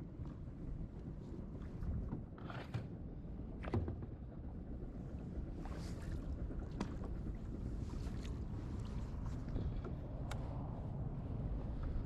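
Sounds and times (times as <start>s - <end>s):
water lapping against hull: 0.0s - 12.0s
wind rumble on microphone: 0.0s - 12.0s.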